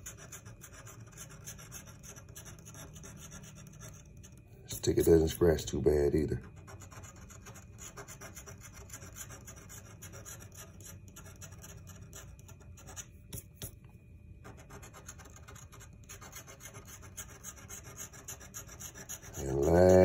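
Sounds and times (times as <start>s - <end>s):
coin scratching lottery ticket: 0.0s - 13.7s, 14.4s - 20.0s.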